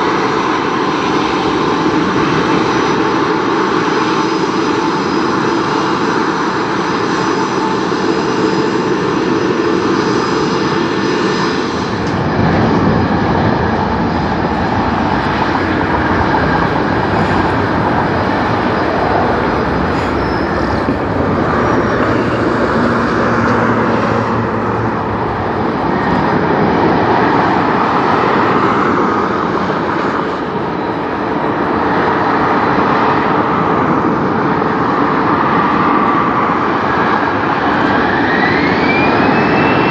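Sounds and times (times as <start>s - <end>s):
jet engines roaring at takeoff: 0.0s - 39.9s.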